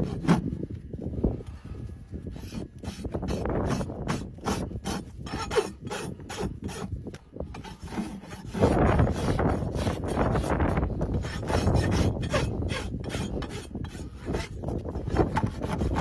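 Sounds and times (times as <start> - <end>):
rasp filing a hoof: 0.0 - 0.6, 2.2 - 16.0.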